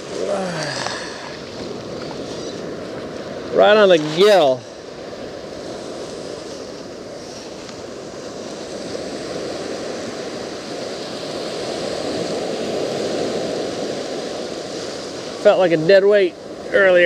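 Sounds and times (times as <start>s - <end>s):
ocean surf breaking on sand: 0.0s - 17.0s.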